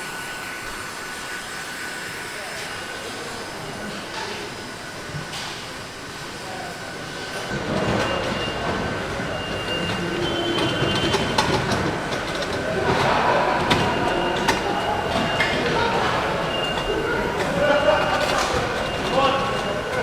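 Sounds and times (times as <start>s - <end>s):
factory machinery whining: 0.0s - 20.0s.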